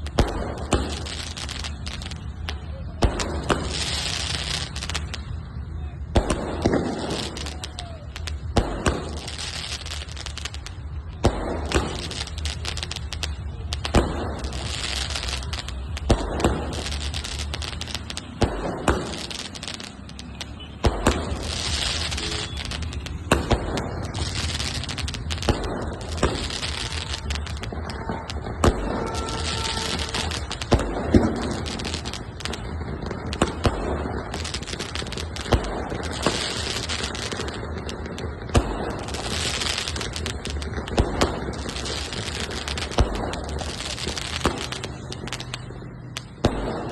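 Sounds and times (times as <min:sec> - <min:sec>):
firework bangs: 0:00.0 - 0:46.9
firework crackling: 0:00.0 - 0:46.9.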